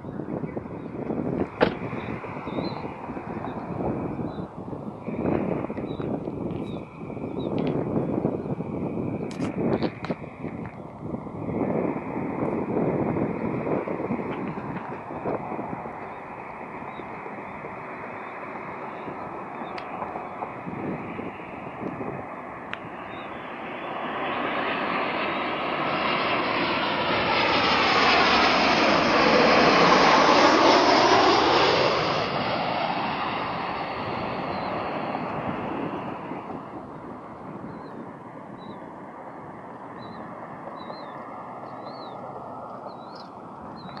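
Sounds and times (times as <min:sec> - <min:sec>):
jet engines passing overhead: 0:00.0 - 0:44.0.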